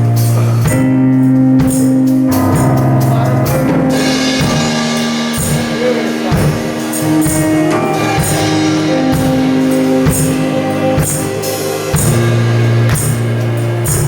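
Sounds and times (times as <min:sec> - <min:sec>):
bass held notes: 0:00.0 - 0:14.0
drum kit and cymbal hits: 0:00.0 - 0:14.0.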